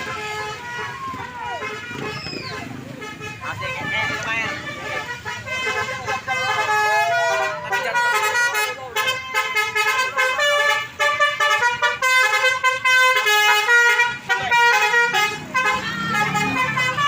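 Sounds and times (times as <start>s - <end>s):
bus musical horn melody: 0.0s - 17.0s.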